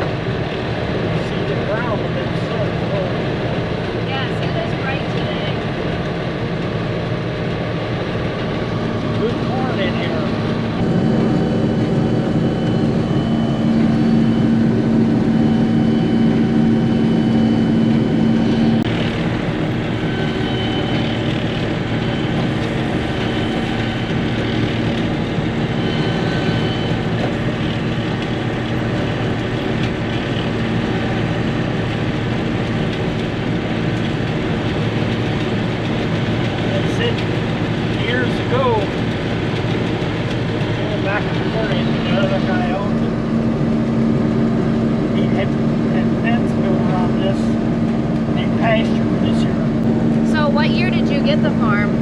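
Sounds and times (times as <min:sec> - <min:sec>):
combine harvester drone: 0:00.0 - 0:52.0.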